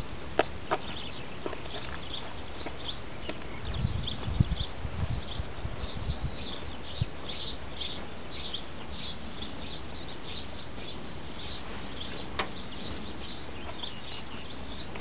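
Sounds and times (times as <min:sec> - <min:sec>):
small birds chirping: 0:00.0 - 0:15.0
steady background hiss: 0:00.0 - 0:15.0.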